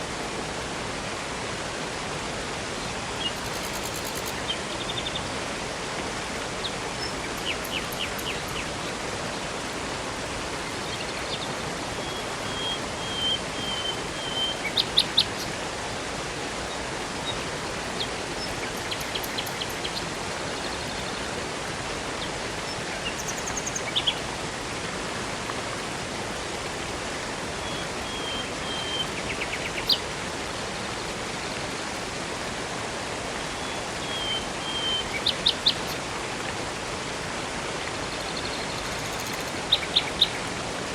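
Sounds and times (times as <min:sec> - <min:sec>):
rushing river and waterfall: 0:00.0 - 0:40.9.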